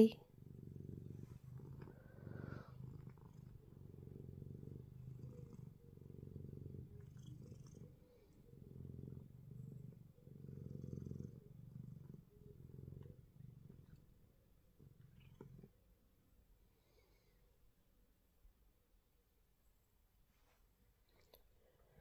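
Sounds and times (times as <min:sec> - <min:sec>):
cat purring softly: 0:00.0 - 0:18.6, 0:19.6 - 0:22.0.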